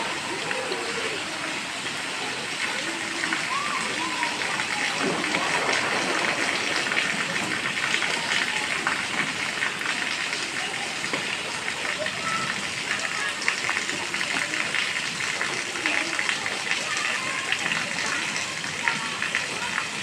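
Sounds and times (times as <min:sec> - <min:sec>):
heavy rain splattering: 0:00.0 - 0:20.0.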